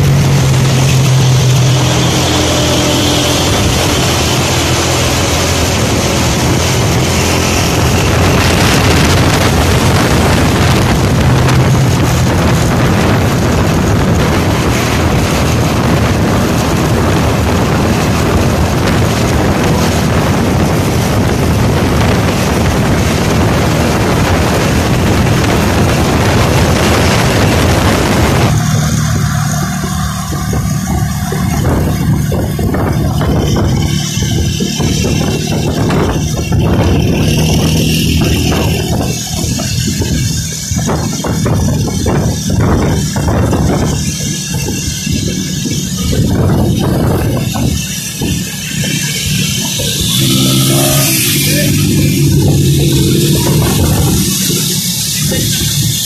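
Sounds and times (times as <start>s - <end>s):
engines and tyres in traffic: 0.0s - 56.0s
wind rushing over microphone: 0.0s - 56.0s.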